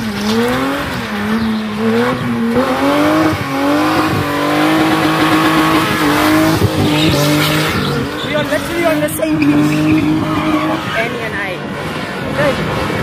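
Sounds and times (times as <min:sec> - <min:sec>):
tyres screeching: 0:00.0 - 0:11.6
car engine revving: 0:00.0 - 0:13.0.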